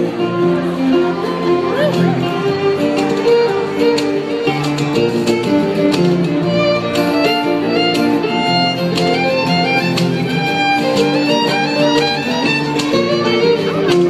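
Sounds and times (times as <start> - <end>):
fiddle melody: 0.0 - 14.0
strummed acoustic guitar: 0.0 - 14.0.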